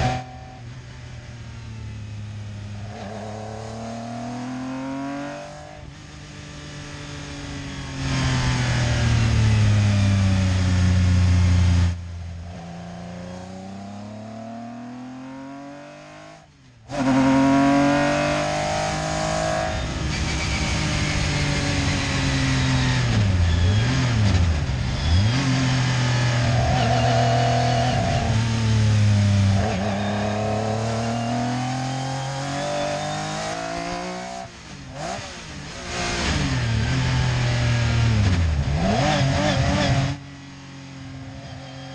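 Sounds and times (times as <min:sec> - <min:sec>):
rally car engine revving: 0:00.0 - 0:00.8, 0:02.5 - 0:40.2.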